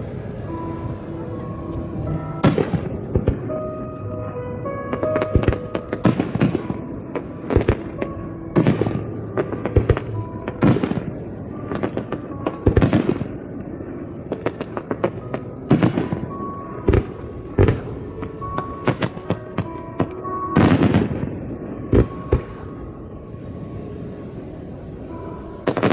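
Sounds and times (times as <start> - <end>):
fireworks bangs: 0.0 - 25.9
fireworks crackling: 0.0 - 25.9
music playing: 0.0 - 25.9.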